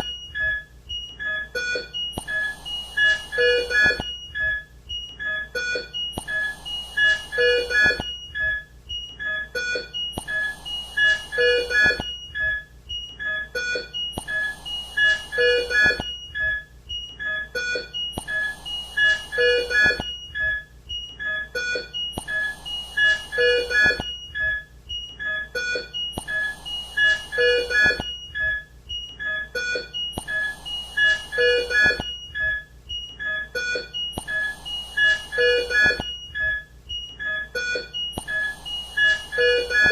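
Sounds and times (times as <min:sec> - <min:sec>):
patient monitor beeps: 0:00.0 - 0:39.9.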